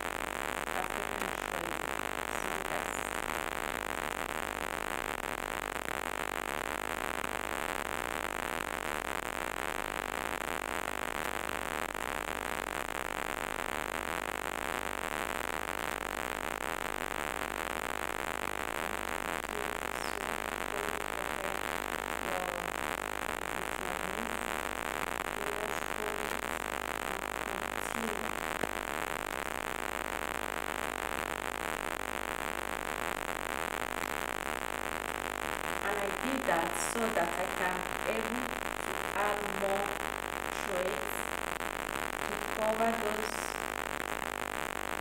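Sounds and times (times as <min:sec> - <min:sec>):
static hiss: 0:00.0 - 0:45.0.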